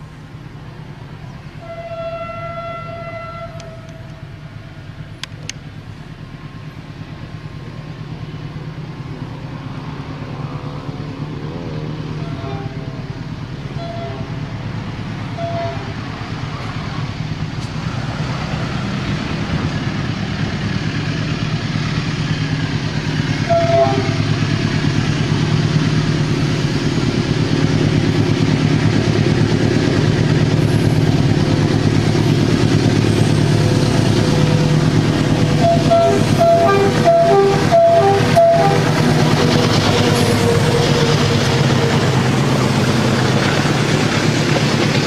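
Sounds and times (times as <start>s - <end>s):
diesel locomotive engine rumble: 0.0s - 45.0s.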